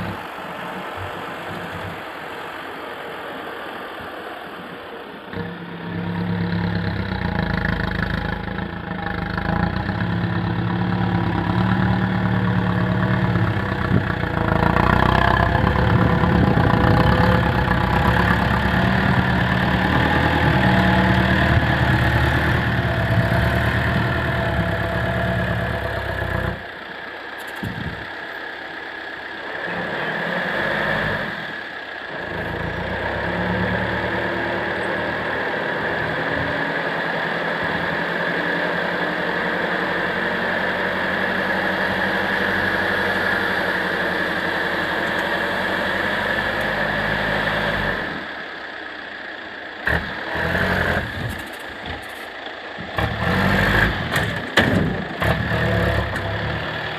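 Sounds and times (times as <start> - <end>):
truck diesel engine running: 0.0 - 56.9.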